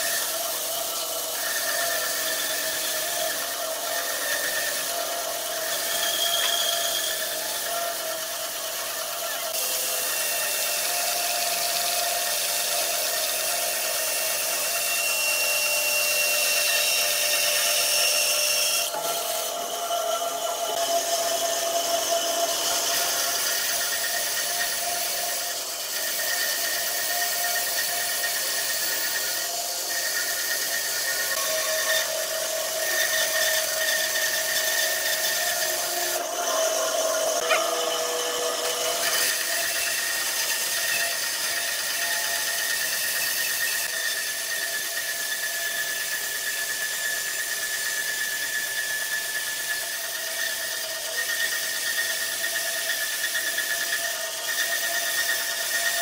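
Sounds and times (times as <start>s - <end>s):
bandsaw cutting log: 0.0s - 56.0s.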